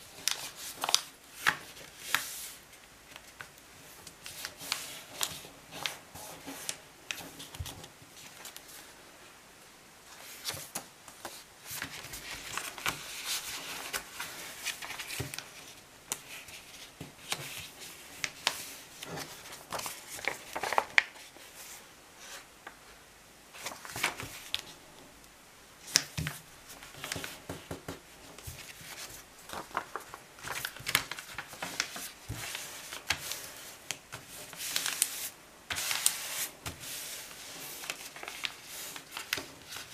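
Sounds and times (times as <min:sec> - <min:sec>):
paper rustling and crinkling: 0:00.0 - 0:08.9, 0:10.1 - 0:22.8, 0:23.6 - 0:24.8, 0:25.8 - 0:39.9.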